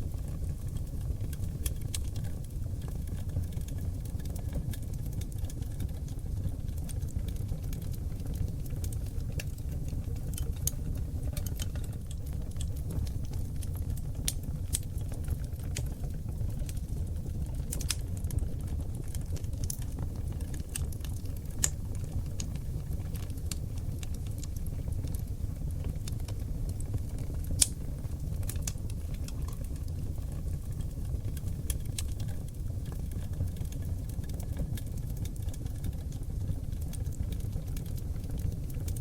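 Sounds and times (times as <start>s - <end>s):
low rumble of flames: 0.0s - 39.0s
sharp crackles and pops: 0.0s - 39.0s.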